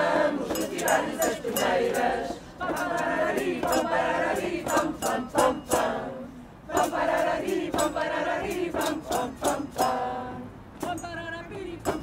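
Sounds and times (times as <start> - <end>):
crowd singing in unison: 0.0 - 10.8.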